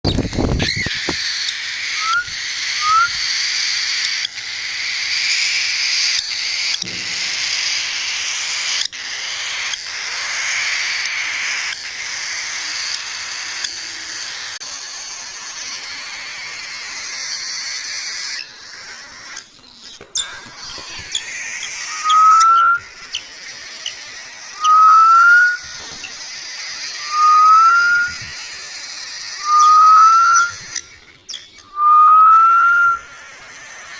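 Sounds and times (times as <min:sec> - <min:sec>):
parrots chattering and chirping: 0:00.1 - 0:31.8, 0:32.4 - 0:33.9.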